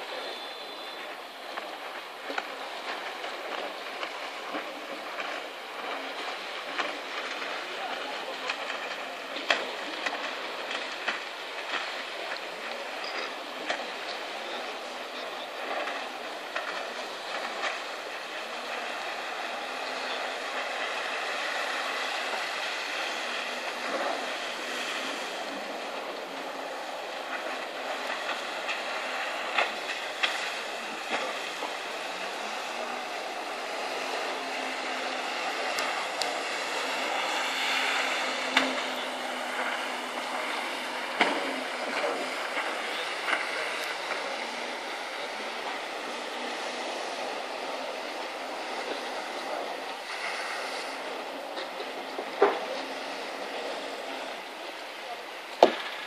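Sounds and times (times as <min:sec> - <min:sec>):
distant jet ski engine: 0:00.0 - 0:56.0
water wash: 0:00.0 - 0:56.0.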